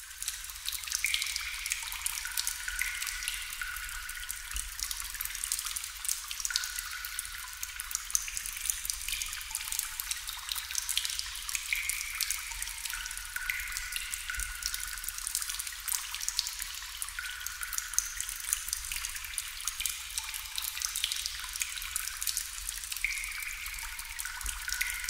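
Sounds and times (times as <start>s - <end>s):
water drops dripping into water: 0.2s - 25.0s.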